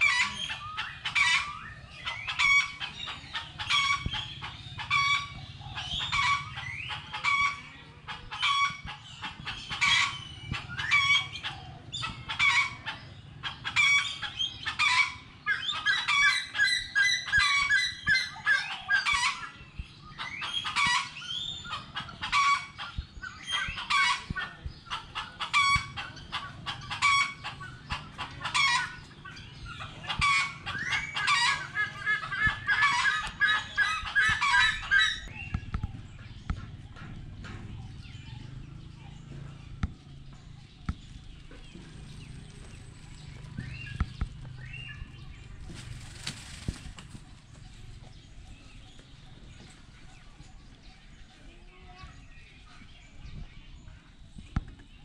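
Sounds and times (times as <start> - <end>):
dense bird chatter: 0.0 - 55.0.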